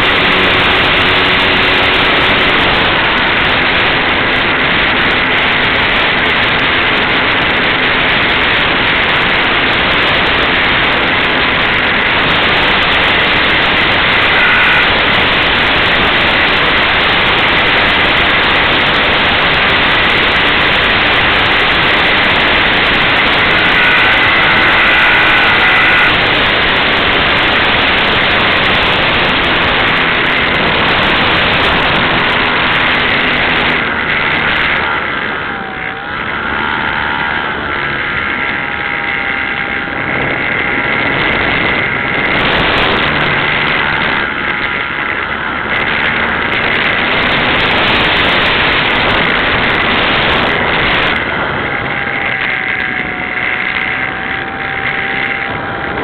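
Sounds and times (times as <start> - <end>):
lower whine: 0.0 - 56.0
model plane motor whine: 0.0 - 56.0
wind buffeting microphone: 0.0 - 56.0.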